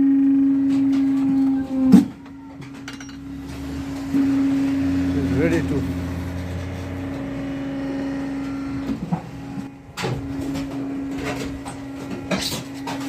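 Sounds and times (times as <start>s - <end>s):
machine motor hum: 0.0s - 13.0s
sharp knocks and clanks: 0.7s - 4.2s, 5.6s - 13.0s.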